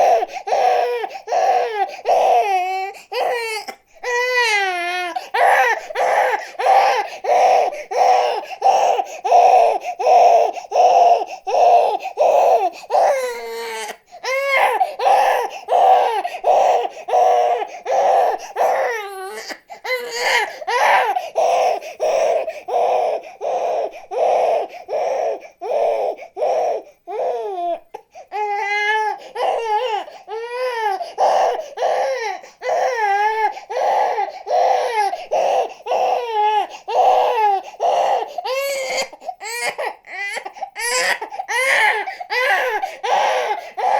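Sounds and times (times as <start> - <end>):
infant crying: 0.0 - 43.9.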